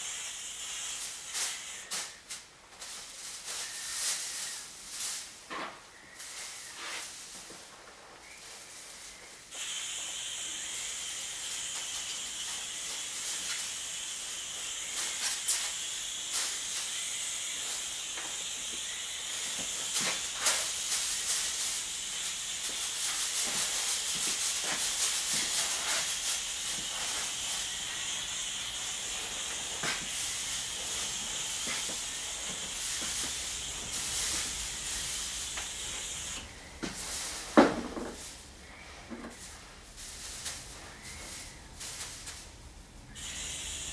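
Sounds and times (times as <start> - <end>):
aerosol spray can hissing: 0.0 - 5.4, 8.3 - 43.9.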